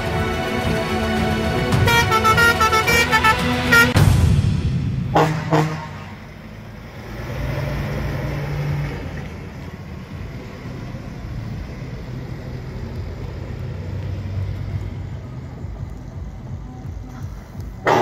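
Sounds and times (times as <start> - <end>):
truck driving past: 0.0 - 18.0.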